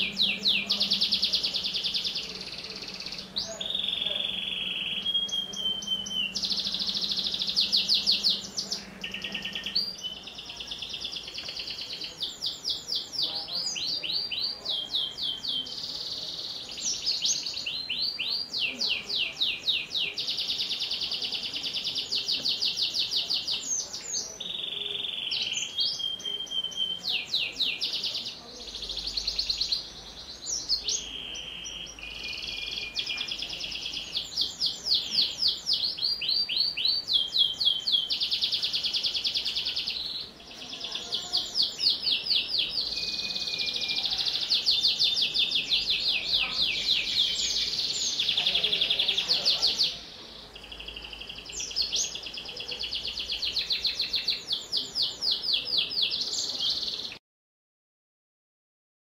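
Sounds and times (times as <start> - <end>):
canary singing: 0.0 - 57.2.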